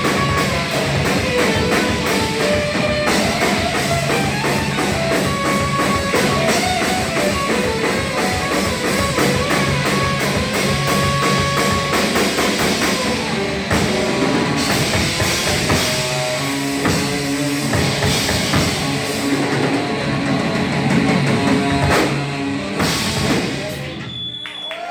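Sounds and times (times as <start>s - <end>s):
distorted electric guitars: 0.0s - 24.2s
fast pounding drum kit: 0.0s - 24.3s.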